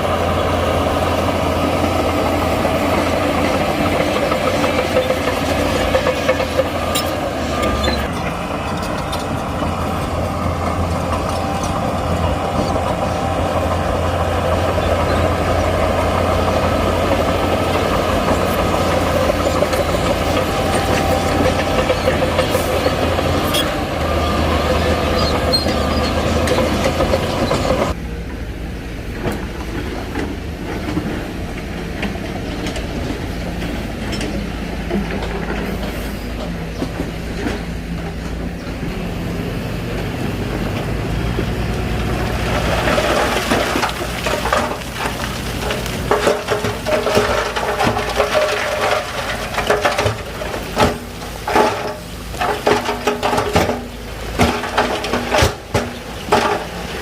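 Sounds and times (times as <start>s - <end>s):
bulldozer diesel engine running: 0.0s - 57.0s
steel tracks clanking: 0.0s - 57.0s.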